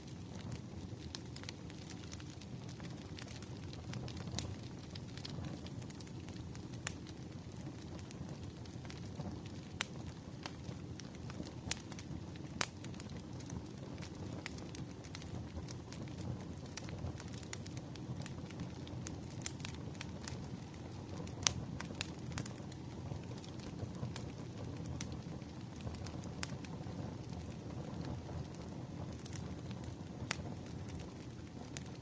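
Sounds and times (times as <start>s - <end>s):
firewood crackling and popping: 0.0s - 32.0s
low rumble of flames: 0.0s - 32.0s.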